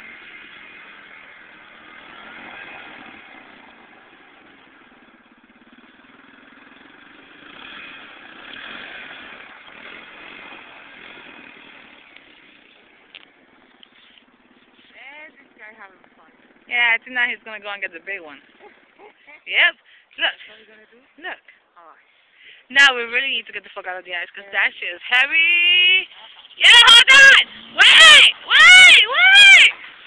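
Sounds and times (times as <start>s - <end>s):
quad engine revving: 0.0s - 19.3s, 25.1s - 30.0s.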